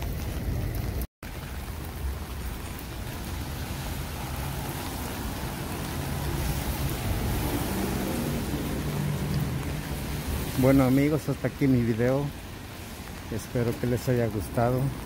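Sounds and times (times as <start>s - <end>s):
rain on wet pavement: 0.0s - 15.0s.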